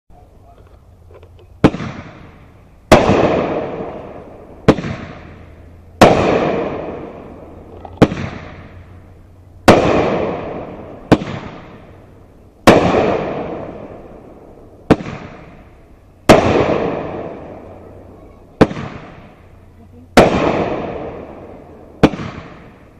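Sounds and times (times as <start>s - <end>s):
firework launch cracks: 1.1s - 22.9s
firework bursts with hiss: 1.6s - 22.9s.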